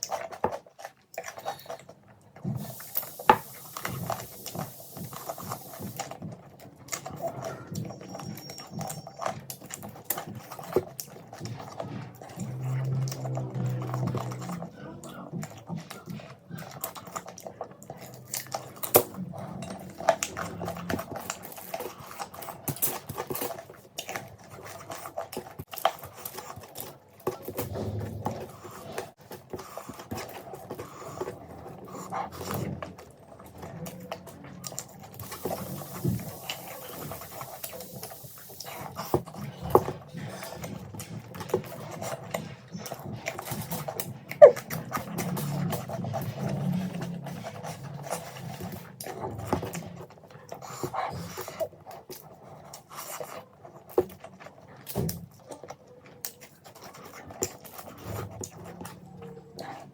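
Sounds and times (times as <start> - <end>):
chewing and mouth smacking: 0.0 - 59.9.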